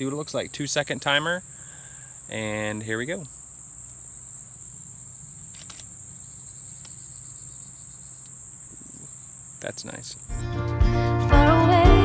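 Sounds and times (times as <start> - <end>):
insects chorus: 0.0 - 10.7.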